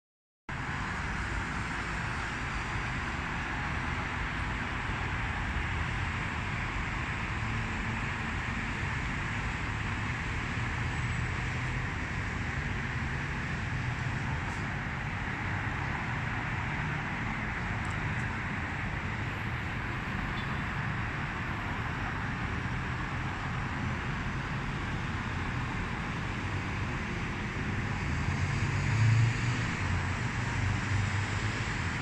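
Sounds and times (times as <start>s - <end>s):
road traffic hum: 0.5s - 32.0s.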